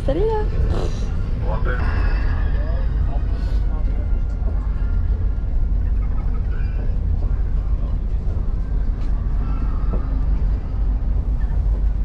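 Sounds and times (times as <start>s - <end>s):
faint voices: 0.0s - 12.0s
train carriage rumble: 0.0s - 12.0s.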